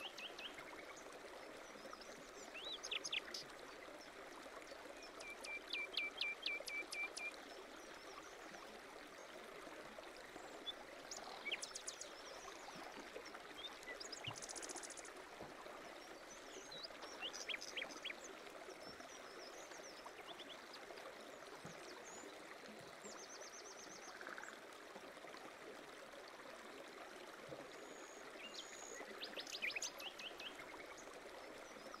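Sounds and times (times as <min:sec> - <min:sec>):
faint birdsong chirps and trills: 0:00.0 - 0:09.4, 0:10.2 - 0:24.7, 0:27.6 - 0:32.0.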